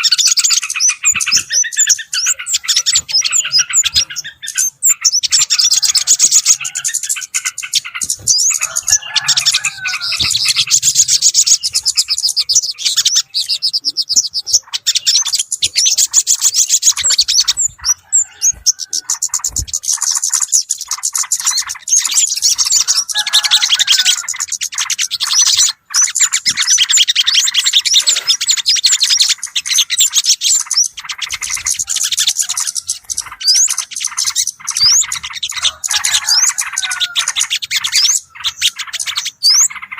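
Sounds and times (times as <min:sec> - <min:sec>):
songbirds chirping and chattering: 0:00.0 - 0:39.9.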